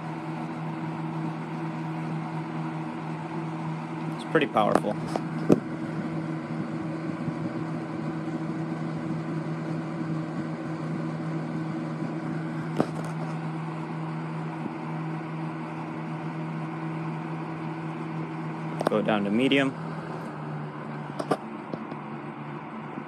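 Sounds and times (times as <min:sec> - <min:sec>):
fan humming with air rush: 0:00.0 - 0:23.0.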